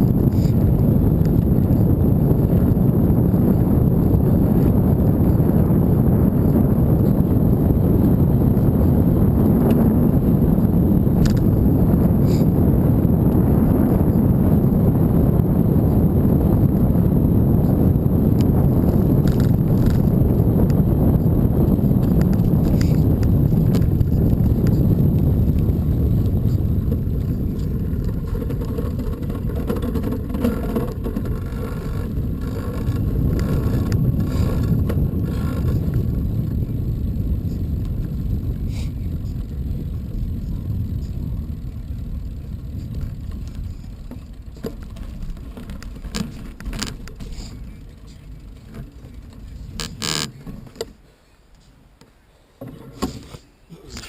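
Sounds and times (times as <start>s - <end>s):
wind rumbling: 0.0s - 50.8s
bicycle rolling noise: 0.0s - 51.0s.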